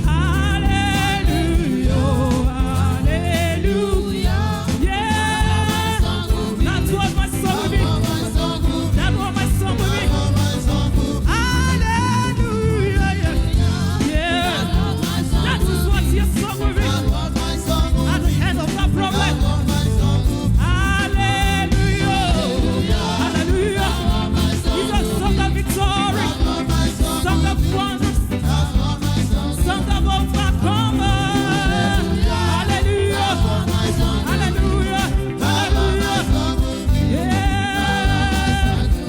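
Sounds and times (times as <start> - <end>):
bass and drum beat: 0.0 - 39.0
person singing gospel: 0.0 - 39.0.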